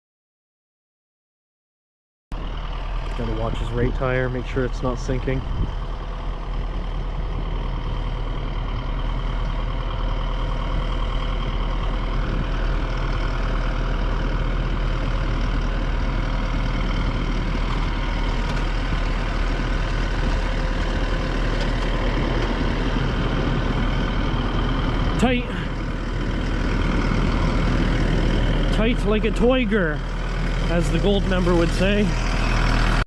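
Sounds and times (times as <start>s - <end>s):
truck engine humming: 2.3s - 33.0s.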